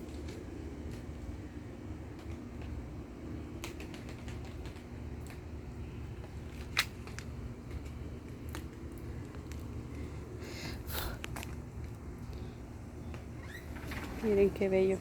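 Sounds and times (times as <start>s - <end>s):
bonfire crackling: 0.0s - 13.0s
fire popping: 0.0s - 13.3s.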